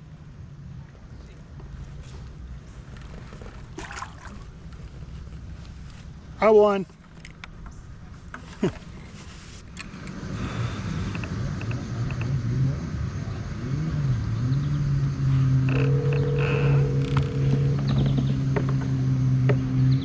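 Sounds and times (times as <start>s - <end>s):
motorboat engine droning: 0.0s - 20.0s.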